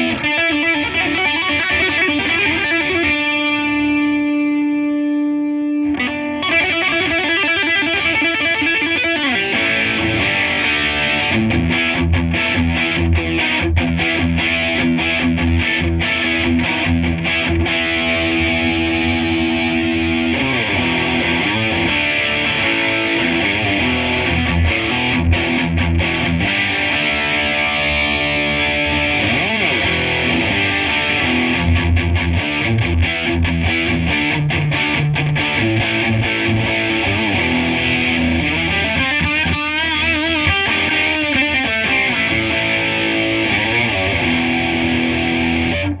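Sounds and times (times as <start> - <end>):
electric guitar playing: 0.0 - 46.0.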